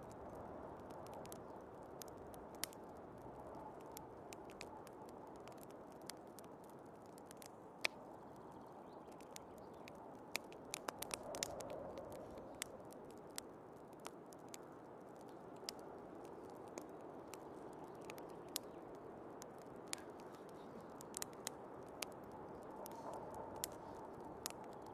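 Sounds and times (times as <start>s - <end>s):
fire popping: 0.0s - 24.9s
wood fire crackling: 0.0s - 24.9s.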